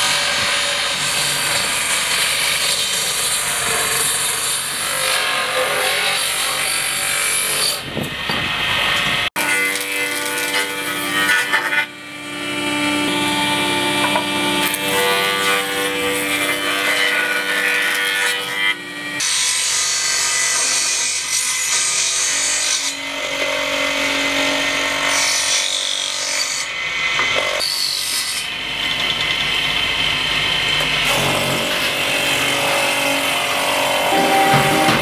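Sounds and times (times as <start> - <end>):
table saw cutting wood: 0.0 - 35.0.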